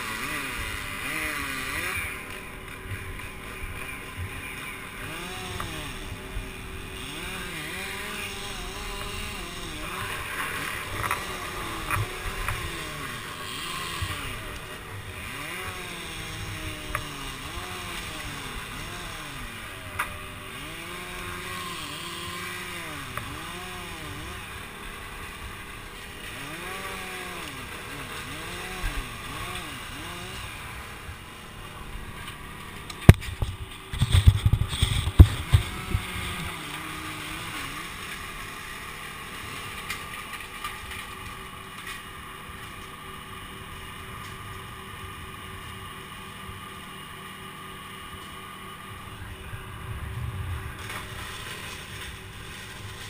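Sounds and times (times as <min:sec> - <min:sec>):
chainsaw engine running: 0:00.0 - 0:53.0.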